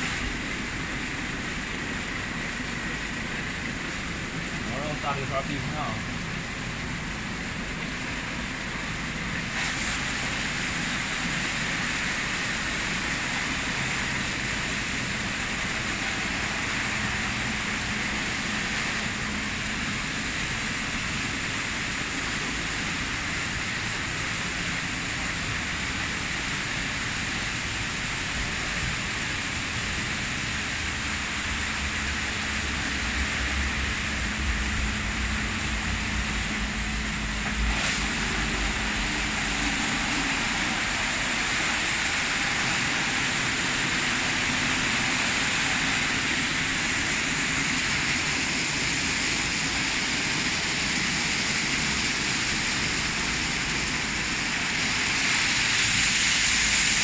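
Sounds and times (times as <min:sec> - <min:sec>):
water spraying: 0:00.0 - 0:57.0.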